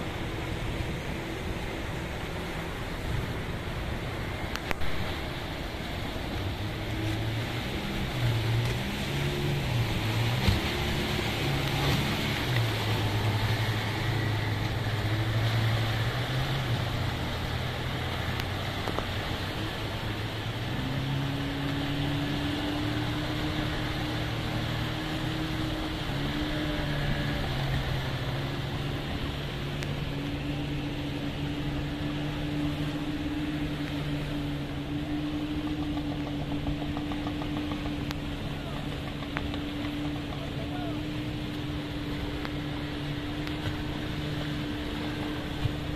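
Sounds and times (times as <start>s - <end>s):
boat engines running: 0.0s - 45.9s
higher boat engine passing: 0.0s - 45.9s
waves breaking on rocks: 0.0s - 45.9s.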